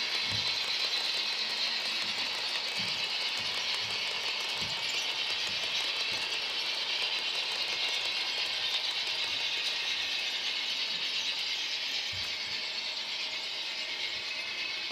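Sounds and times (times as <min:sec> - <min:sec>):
model trains running on rails: 0:00.0 - 0:14.9.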